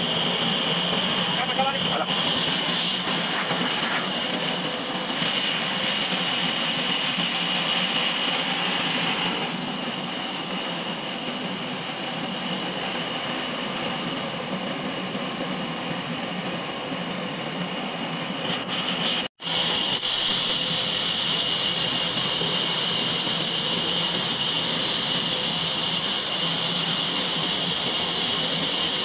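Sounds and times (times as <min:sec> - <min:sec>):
sawmill machine hum: 0:00.0 - 0:29.0.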